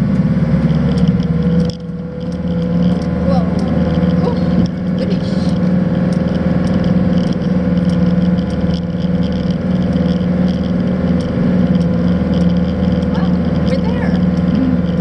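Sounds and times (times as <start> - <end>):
van engine droning: 0.0 - 15.0.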